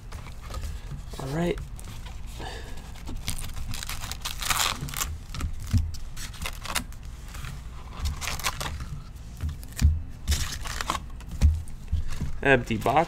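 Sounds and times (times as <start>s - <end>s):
foil wrappers crinkling: 0.2s - 9.1s, 10.3s - 13.0s.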